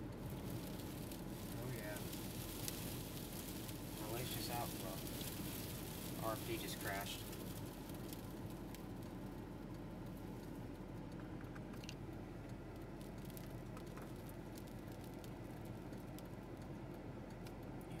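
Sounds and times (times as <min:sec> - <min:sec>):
light rain on car roof: 0:00.0 - 0:18.0
low cabin hum: 0:00.0 - 0:18.0.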